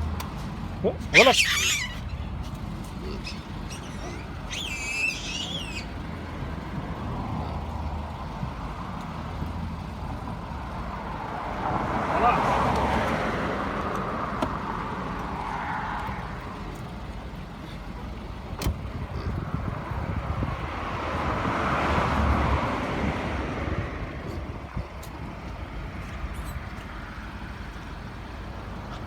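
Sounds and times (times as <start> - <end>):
car passing on road: 0.0 - 29.0.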